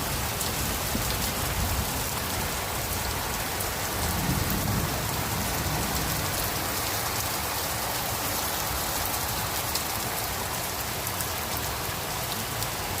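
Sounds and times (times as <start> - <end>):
heavy rain pouring: 0.0 - 13.0
rain drops ticking: 0.0 - 13.0.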